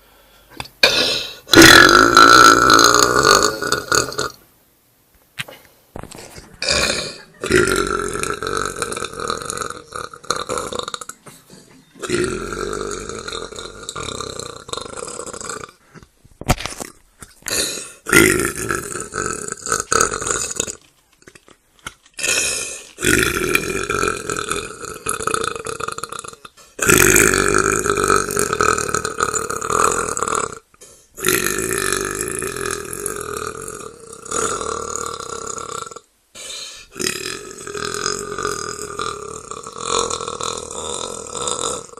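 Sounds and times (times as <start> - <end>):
man belching: 0.8 - 4.4, 6.6 - 11.3, 12.0 - 15.8, 17.5 - 20.8, 22.2 - 36.1, 36.9 - 41.9.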